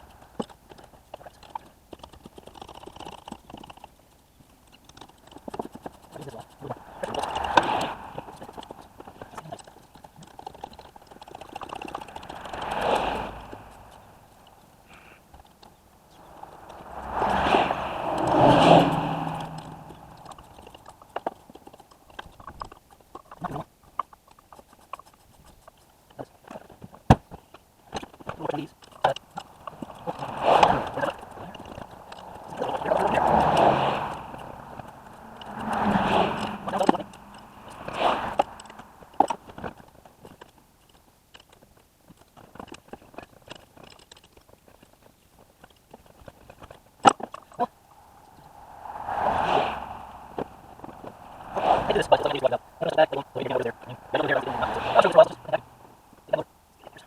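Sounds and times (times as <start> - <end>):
hand tools and metal parts clinking: 0.0 - 48.4.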